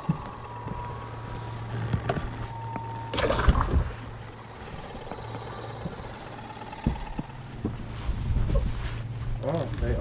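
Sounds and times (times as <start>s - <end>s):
thin high whine: 0.0s - 9.7s
electric trolling motor humming: 0.0s - 10.0s.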